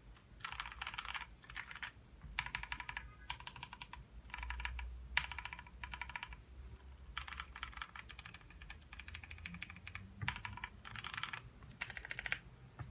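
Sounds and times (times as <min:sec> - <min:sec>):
fast typing on mechanical keyboard: 0:00.4 - 0:06.4, 0:07.1 - 0:12.4.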